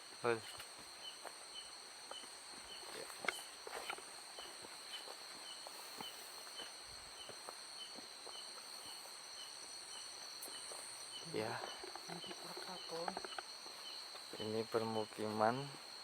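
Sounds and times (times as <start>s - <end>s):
crickets trilling: 0.0s - 16.0s
short repeating insect chirp: 0.0s - 16.0s
soft footsteps: 0.1s - 15.5s.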